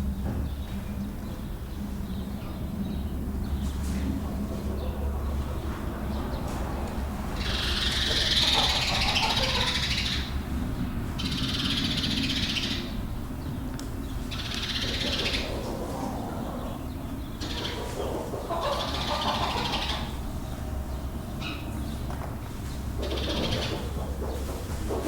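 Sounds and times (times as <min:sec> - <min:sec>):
steady low hum: 0:00.0 - 0:25.0
chickens calling: 0:00.6 - 0:25.0.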